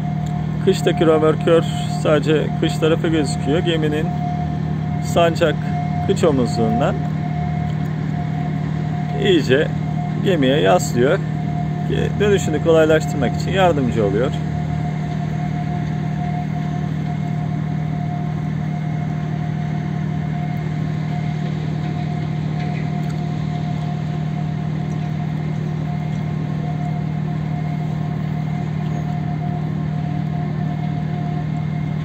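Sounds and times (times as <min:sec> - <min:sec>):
machinery whine: 0:00.0 - 0:32.0
ship engine hum: 0:00.0 - 0:32.0.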